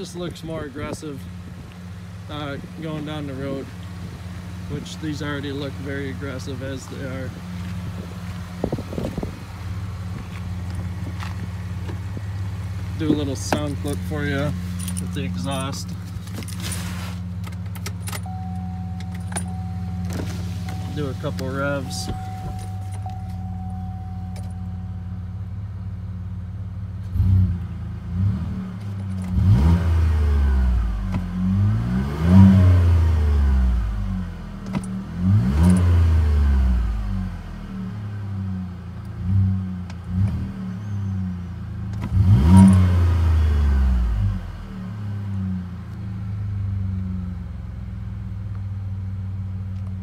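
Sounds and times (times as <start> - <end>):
truck engine idling and revving: 0.0 - 50.0.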